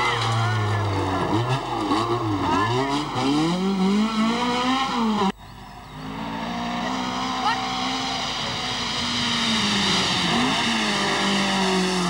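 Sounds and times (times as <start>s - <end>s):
quieter car engine: 0.0s - 12.0s
rally car engine revving: 0.0s - 12.0s.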